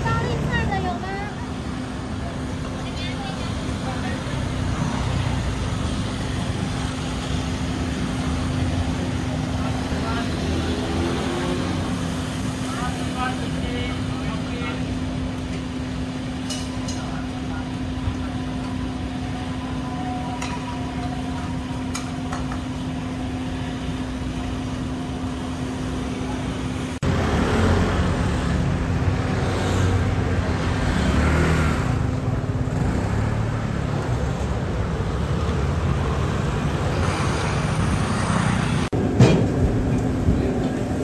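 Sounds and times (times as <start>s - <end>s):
scooters and cars passing: 0.0s - 41.0s
steady low street hum: 0.0s - 41.0s.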